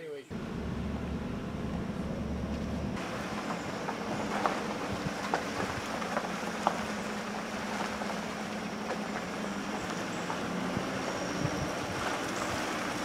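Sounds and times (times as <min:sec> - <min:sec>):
car engine and road noise: 0:00.3 - 0:13.0.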